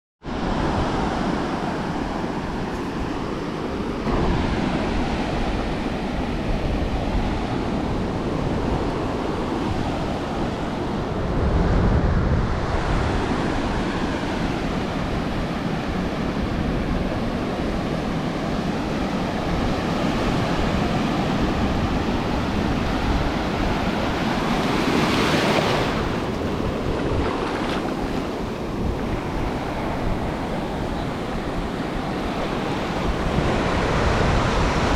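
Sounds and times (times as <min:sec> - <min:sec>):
ocean surf washing onto beach: 0:00.3 - 0:34.9
wind buffeting microphone: 0:00.3 - 0:34.9.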